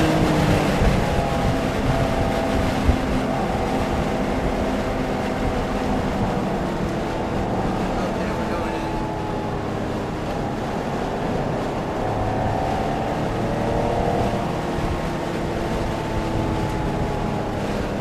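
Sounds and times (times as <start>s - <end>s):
car engine: 0.0s - 18.0s
wind and road noise: 0.0s - 18.0s.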